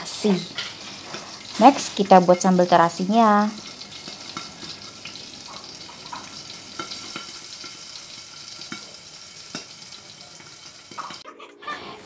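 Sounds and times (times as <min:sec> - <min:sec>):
oil sizzling in a pan: 0:00.0 - 0:11.2.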